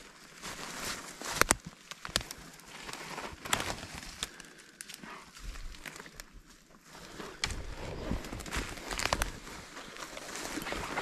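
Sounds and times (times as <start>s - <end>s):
dry twigs snapping: 0.0s - 6.6s, 7.3s - 11.0s
branches rustling: 0.0s - 11.0s
footsteps through brush: 0.0s - 11.0s.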